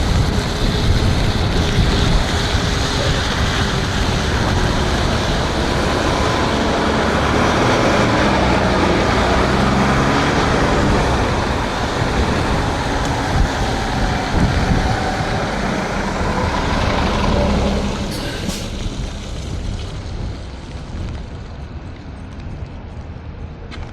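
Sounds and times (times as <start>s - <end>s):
tyres hissing on wet road: 0.0s - 22.2s
vehicle noise: 0.0s - 23.9s
wind rushing over microphone: 0.0s - 23.9s.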